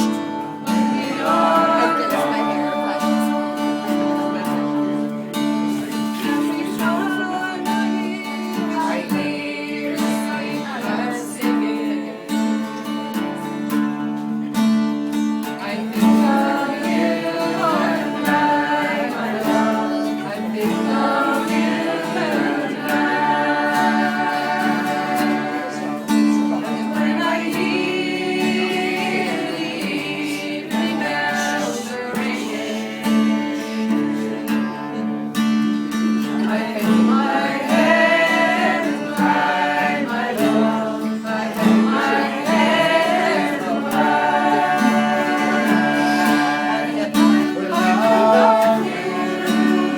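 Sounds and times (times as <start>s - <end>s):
voices singing together: 0.0s - 14.5s, 15.4s - 49.9s
acoustic guitar strumming: 0.0s - 49.9s.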